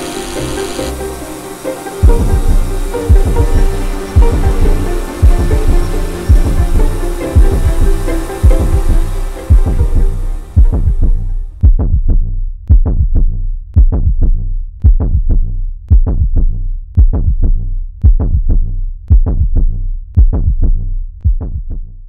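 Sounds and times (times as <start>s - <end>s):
electronic music with deep thumps: 0.0s - 22.0s.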